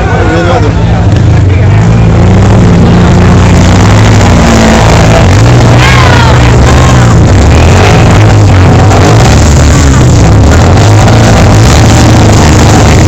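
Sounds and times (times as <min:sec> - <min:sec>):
engine running loud: 0:00.0 - 0:13.0.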